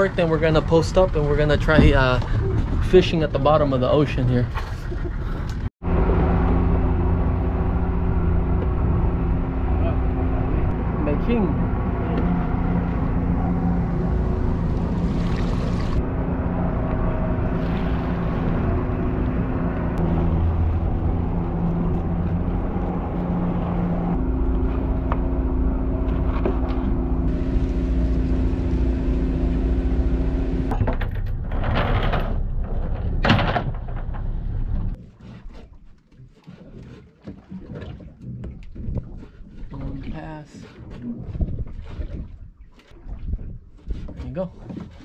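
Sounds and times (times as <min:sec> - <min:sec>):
outboard motor droning: 0:00.0 - 0:30.8, 0:34.2 - 0:45.0.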